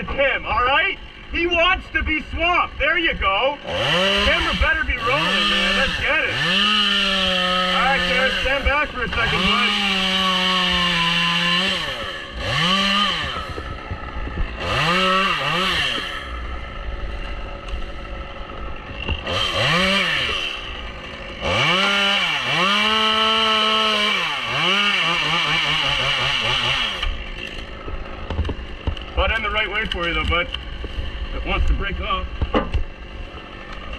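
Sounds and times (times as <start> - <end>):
chainsaw revving: 0.0 - 1.5, 2.5 - 33.9.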